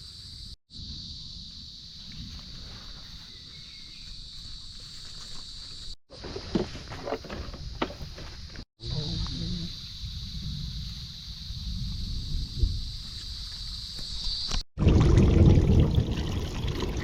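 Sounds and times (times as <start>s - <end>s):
night insects chorus: 0.0s - 14.6s.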